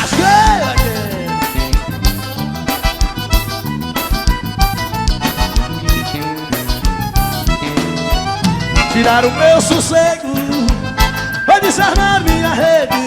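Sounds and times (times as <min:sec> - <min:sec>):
accordion melody: 0:00.0 - 0:13.0
bass: 0:00.0 - 0:13.0
steady drum beat: 0:00.0 - 0:13.0.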